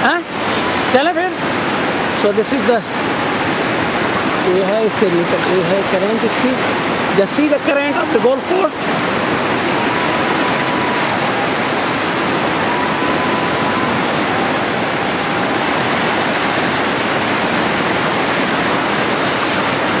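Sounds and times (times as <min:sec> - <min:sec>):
river rapids rushing: 0:00.0 - 0:20.0.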